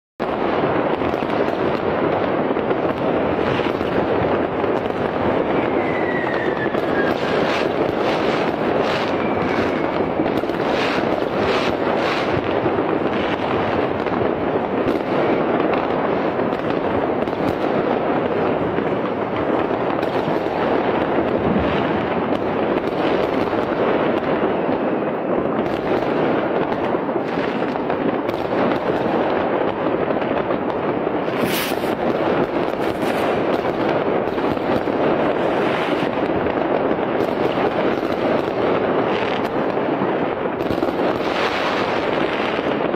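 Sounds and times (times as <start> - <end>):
fireworks and firecrackers: 0.2 - 42.9
sharp firecracker crack: 0.2 - 42.9.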